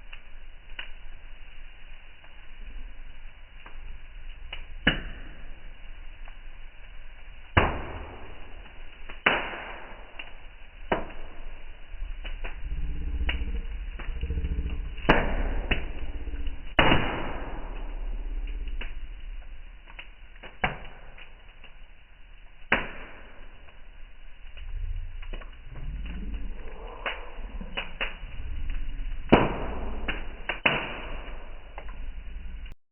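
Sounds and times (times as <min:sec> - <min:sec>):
low rumble of flames: 0:00.0 - 0:32.8
sharp pops of fire: 0:00.0 - 0:32.8
wood fire crackling: 0:00.0 - 0:32.8.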